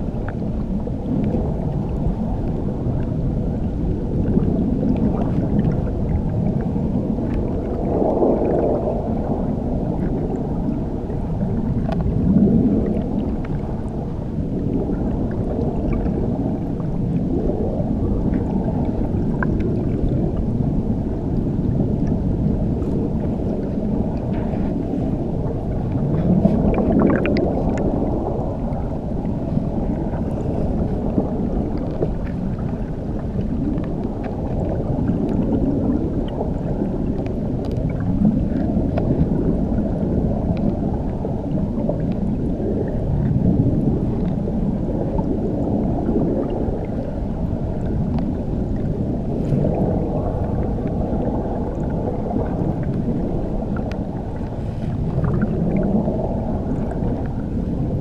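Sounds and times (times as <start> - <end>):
muffled underwater waterfall rumble: 0.0 - 58.0.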